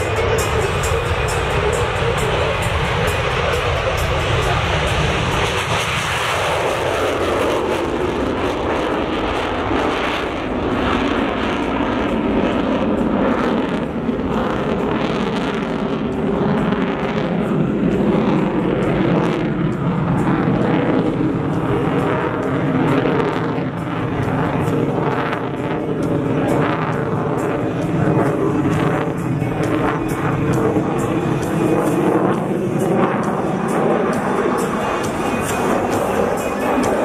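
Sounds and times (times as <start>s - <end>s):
jet fighter roaring on takeoff: 0.0s - 37.0s.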